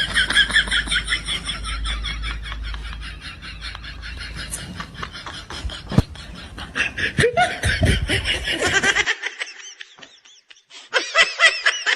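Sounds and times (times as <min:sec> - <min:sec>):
bursts of laughter: 0:00.0 - 0:11.9.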